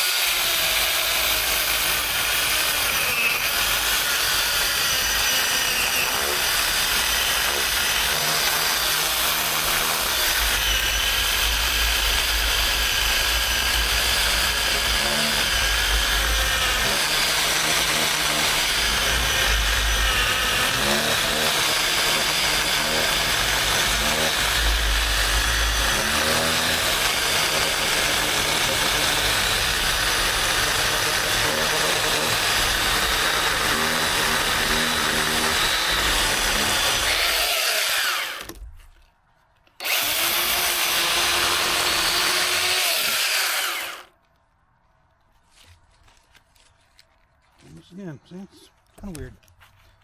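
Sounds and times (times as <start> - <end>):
electric chainsaw cutting wood: 0.0 - 38.7, 39.8 - 44.2.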